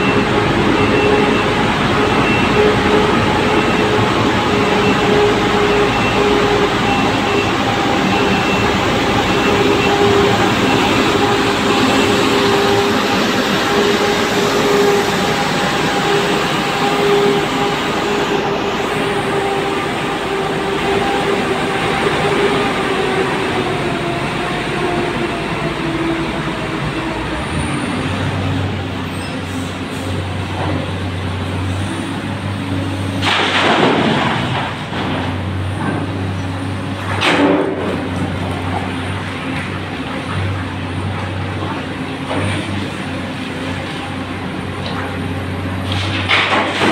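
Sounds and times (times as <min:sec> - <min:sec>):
heavy diesel machinery drone: 0:00.0 - 0:46.9.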